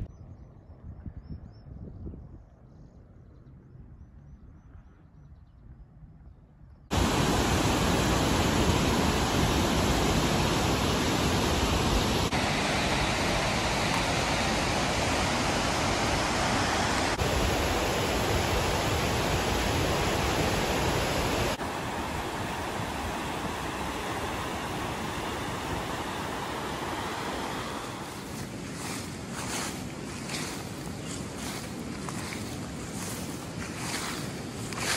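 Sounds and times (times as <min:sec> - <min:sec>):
waterfall and stream rushing: 0:06.9 - 0:34.9.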